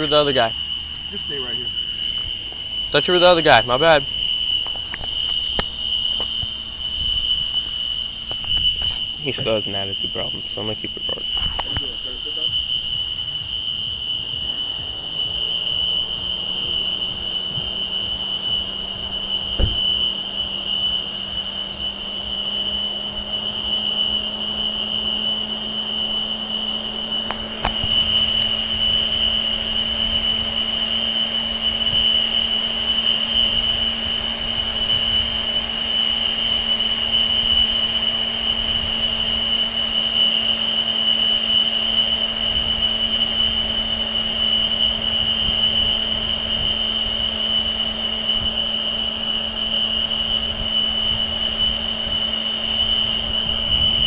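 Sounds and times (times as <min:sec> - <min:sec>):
fire alarm high-pitched tone: 0:00.0 - 0:54.0
steady low hum: 0:00.0 - 0:54.0.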